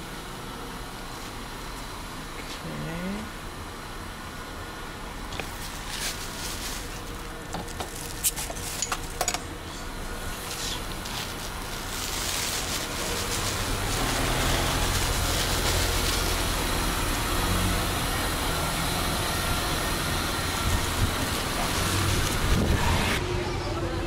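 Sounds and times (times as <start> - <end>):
street noise: 0.0 - 24.0
vehicle engine idling: 0.0 - 24.0.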